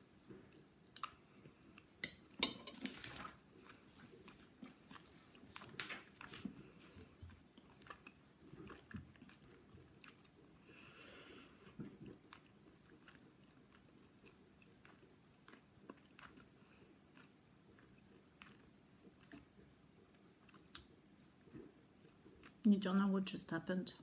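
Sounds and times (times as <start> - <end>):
person chewing food: 0.1 - 22.6.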